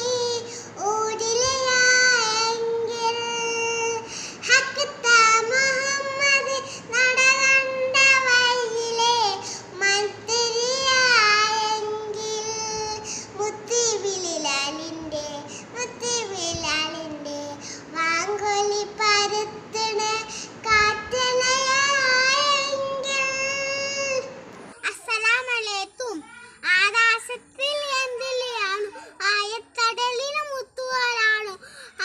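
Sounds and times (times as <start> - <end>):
girl singing unaccompanied: 0.0 - 32.0.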